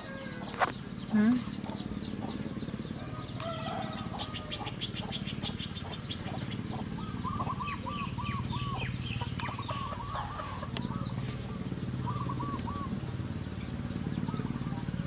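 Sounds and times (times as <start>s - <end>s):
birds chipping calls: 0.0s - 15.0s
steady low hum: 0.0s - 15.0s.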